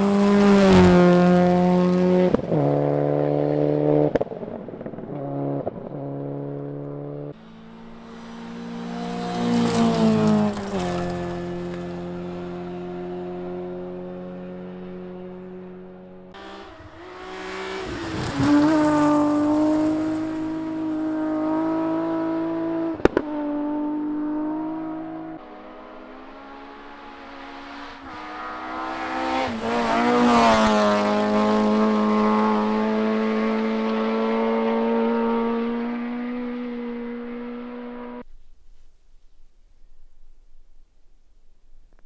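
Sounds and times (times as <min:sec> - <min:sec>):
rally cars passing at full throttle: 0:00.0 - 0:38.2.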